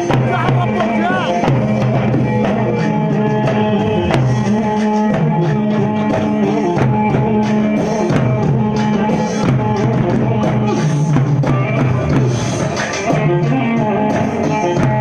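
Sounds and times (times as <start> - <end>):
live band music: 0.0 - 15.0
steady drum beat: 0.0 - 15.0.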